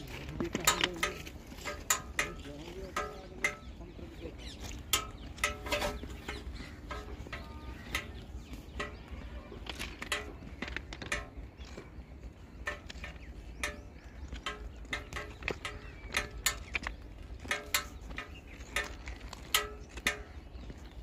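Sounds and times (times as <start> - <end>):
bird calls: 0.0 - 21.0
footsteps crunching on stones: 0.0 - 21.0.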